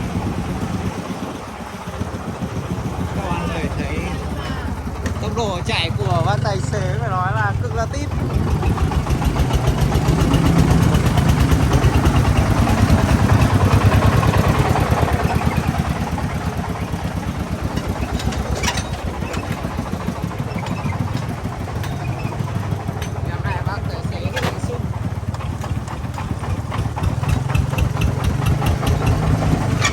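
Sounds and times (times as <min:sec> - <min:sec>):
diesel truck engine chugging: 0:00.0 - 0:29.9.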